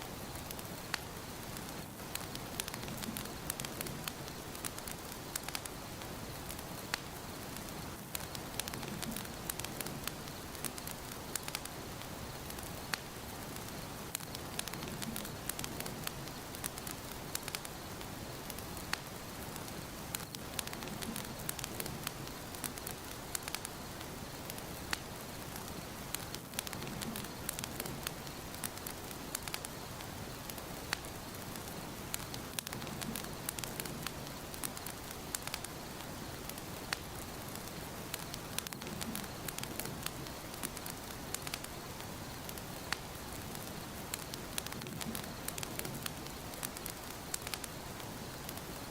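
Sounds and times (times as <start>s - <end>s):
burning wood crackling and popping: 0.0s - 48.9s
hiss of fire flames: 0.0s - 48.9s.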